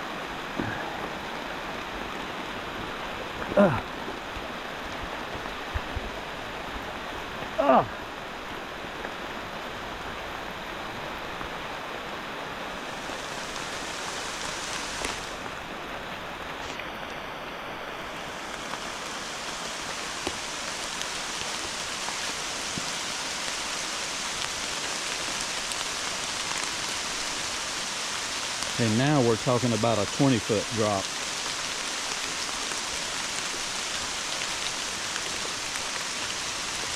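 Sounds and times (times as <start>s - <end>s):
heavy rain falling: 0.0s - 36.9s
rushing flooded creek: 0.0s - 36.9s.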